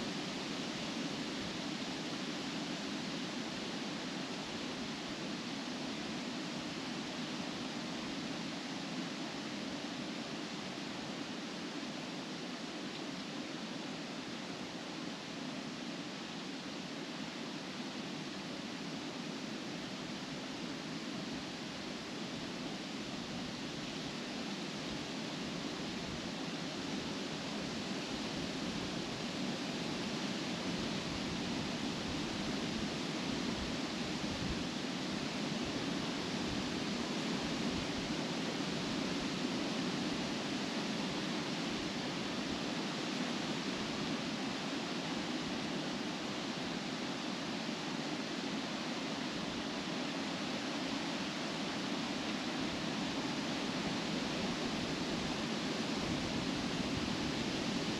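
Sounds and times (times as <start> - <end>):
wind rustling through leaves: 0.0 - 57.9.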